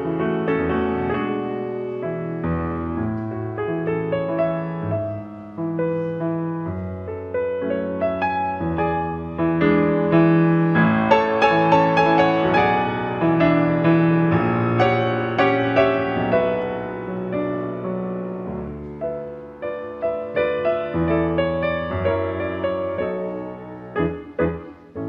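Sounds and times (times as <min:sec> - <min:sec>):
piano playing: 0:00.0 - 0:25.0.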